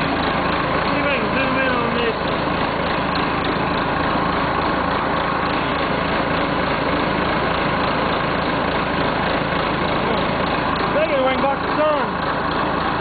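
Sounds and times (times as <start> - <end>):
backhoe engine idling: 0.0 - 13.0.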